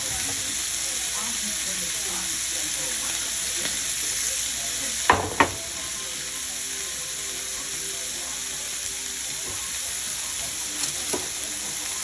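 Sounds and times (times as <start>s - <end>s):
sausage sizzling in frying pan: 0.0s - 12.0s.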